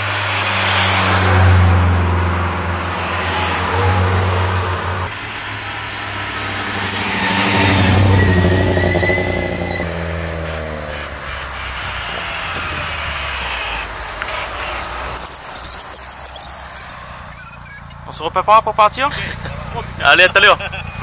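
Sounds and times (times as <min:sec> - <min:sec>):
car engine passing by: 0:00.0 - 0:17.8.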